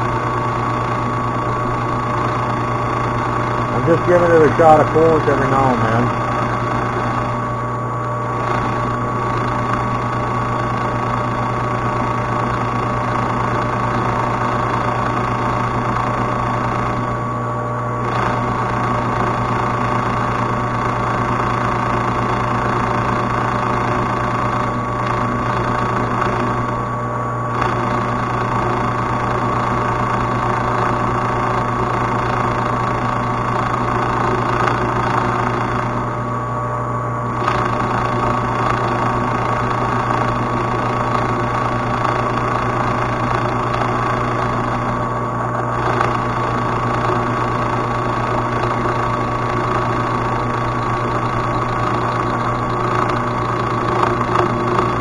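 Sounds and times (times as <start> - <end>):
metal lathe cutting: 0.0 - 36.4, 37.2 - 55.0.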